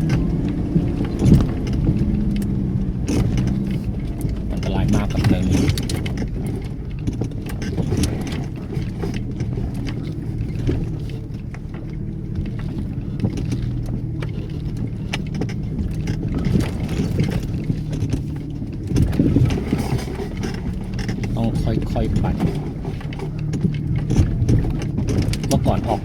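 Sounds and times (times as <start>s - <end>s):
knocks and rattles: 0.0s - 26.0s
off-road vehicle engine drone: 0.0s - 26.0s.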